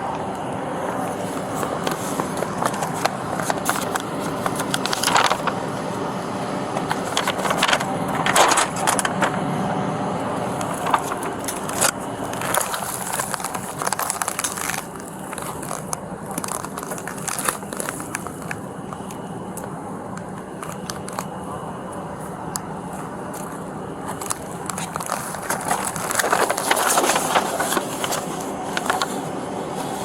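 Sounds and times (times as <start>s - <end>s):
steady noise bed: 0.0s - 30.0s.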